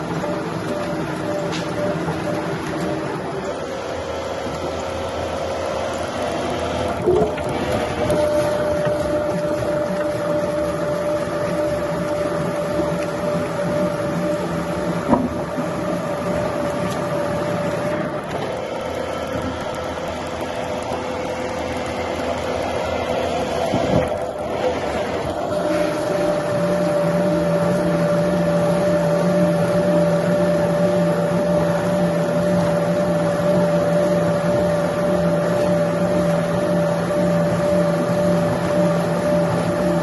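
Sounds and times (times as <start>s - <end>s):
wood-cutting machinery running: 0.0s - 40.0s.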